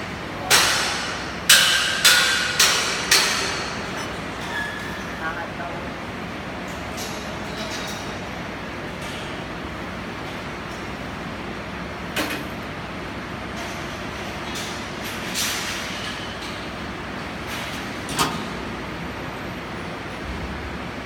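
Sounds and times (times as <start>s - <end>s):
workshop noise: 0.0s - 20.7s.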